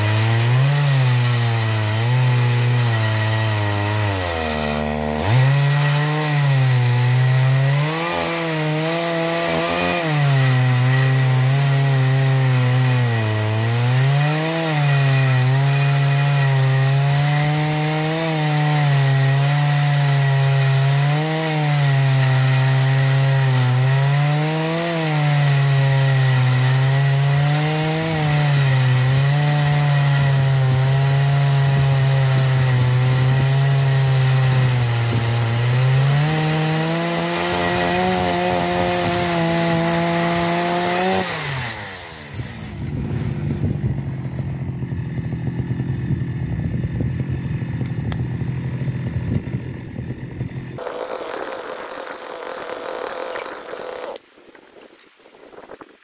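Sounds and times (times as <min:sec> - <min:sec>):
chainsaw cutting under heavy load: 0:00.0 - 0:54.4.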